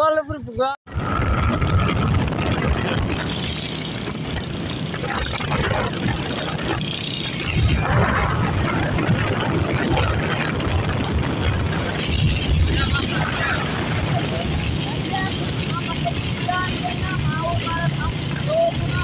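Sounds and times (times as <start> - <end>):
road and wind rush: 0.0 - 19.0
motorcycle engines running: 0.9 - 19.0.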